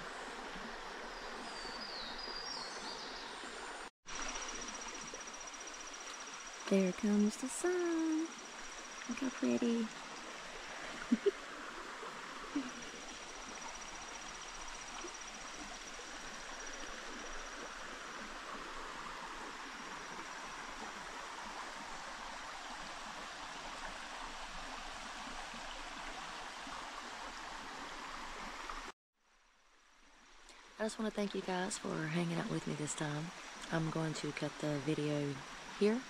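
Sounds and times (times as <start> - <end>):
stream flowing: 0.0 - 28.9, 29.8 - 36.0.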